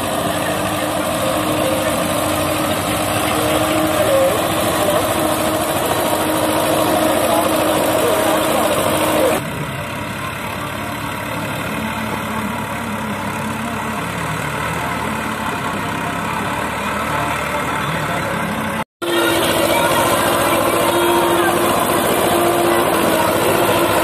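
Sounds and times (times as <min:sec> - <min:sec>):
louder tractor engine steady tone: 0:00.0 - 0:24.0
tractor engine under load: 0:00.0 - 0:24.0.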